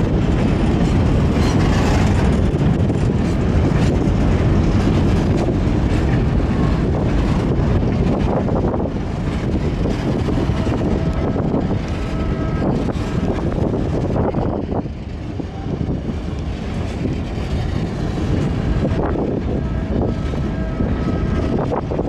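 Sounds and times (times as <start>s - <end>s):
clacks over rail joints: 0.0s - 22.0s
steel wheels rumbling on rail: 0.0s - 22.0s.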